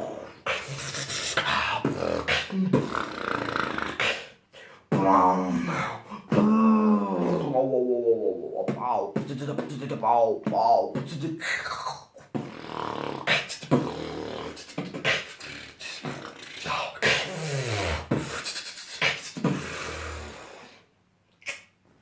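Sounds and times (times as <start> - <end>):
person beatboxing: 0.0 - 20.6, 21.4 - 21.7.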